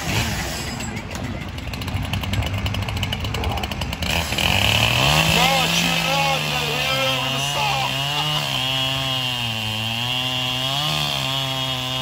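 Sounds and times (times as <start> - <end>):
chainsaw cutting timber: 0.0 - 0.9, 1.8 - 12.0.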